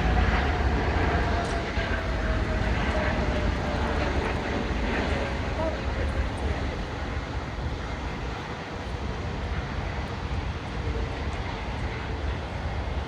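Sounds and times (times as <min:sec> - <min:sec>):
distant jet engines rumble: 0:00.0 - 0:13.0
wind buffeting microphone: 0:00.0 - 0:13.0.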